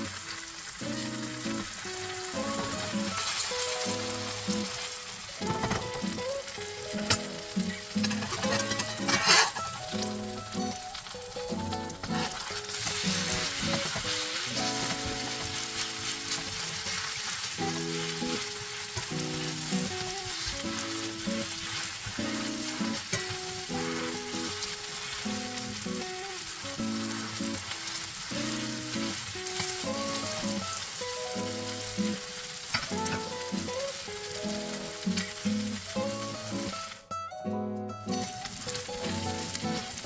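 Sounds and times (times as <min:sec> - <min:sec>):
pancake sizzling in a pan: 0:00.0 - 0:37.1, 0:38.0 - 0:40.0
background music: 0:00.0 - 0:40.0.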